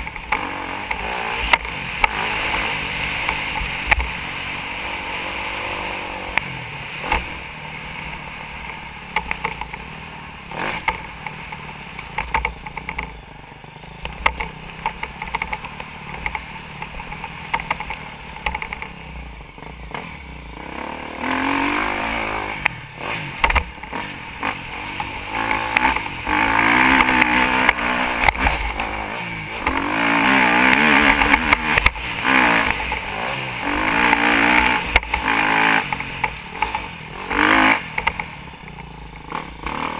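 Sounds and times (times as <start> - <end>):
dirt bike engine revving: 0.0 - 12.4, 19.6 - 39.9.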